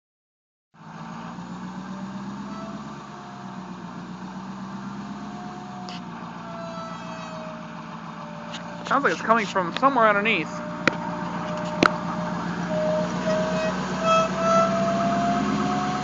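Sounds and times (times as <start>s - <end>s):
diesel engine idling: 0.8s - 16.0s
thin wavering whine: 2.4s - 16.0s.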